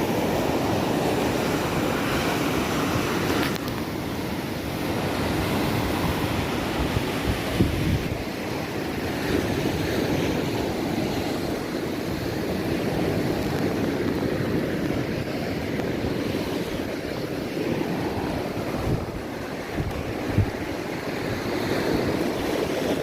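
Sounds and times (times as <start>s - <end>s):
surf on beach: 0.0s - 23.0s
wind on microphone: 0.0s - 23.0s.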